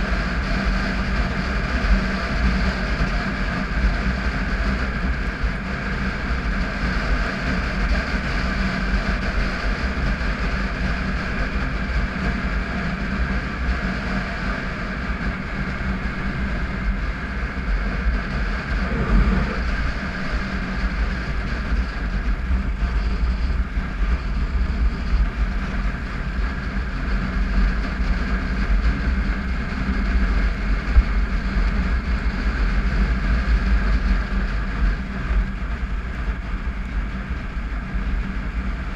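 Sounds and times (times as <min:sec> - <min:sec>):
motorcycle engine running: 0:00.0 - 0:38.9
wind and tyre rumble: 0:00.0 - 0:38.9.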